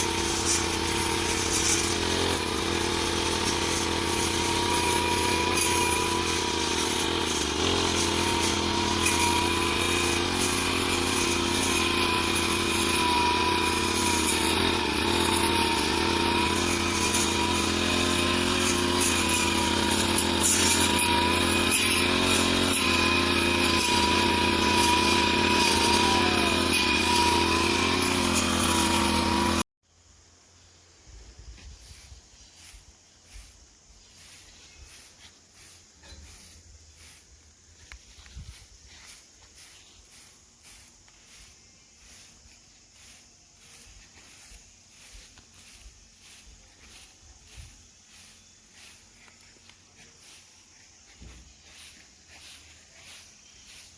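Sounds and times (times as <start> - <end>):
lawn mower engine running: 0.0 - 29.6, 34.2 - 53.9.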